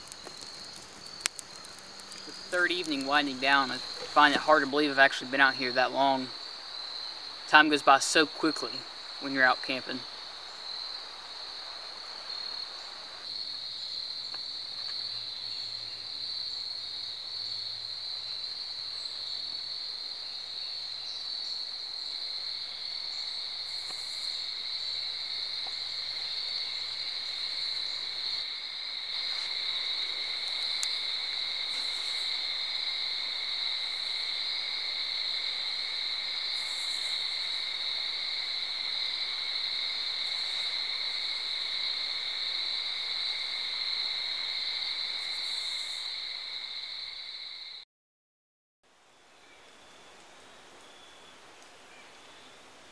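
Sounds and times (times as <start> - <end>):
crickets high-pitched trill: 0.0 - 47.8
lower cricket trill: 0.0 - 47.8.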